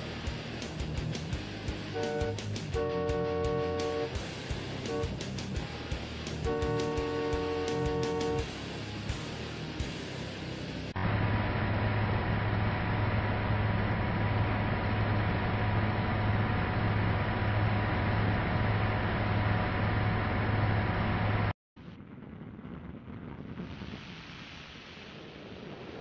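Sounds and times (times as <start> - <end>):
snow plow train mechanical drone: 0.0 - 21.5.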